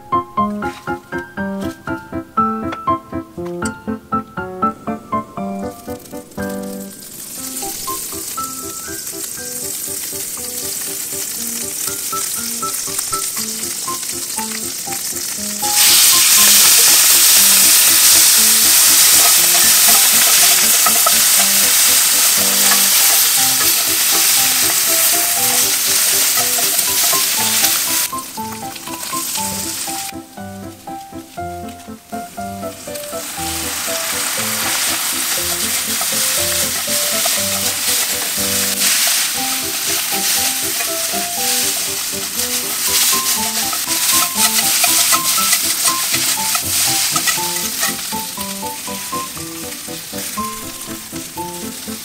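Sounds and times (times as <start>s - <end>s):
food frying and stirred: 5.4s - 52.0s
butter sizzling in a skillet: 5.8s - 52.0s.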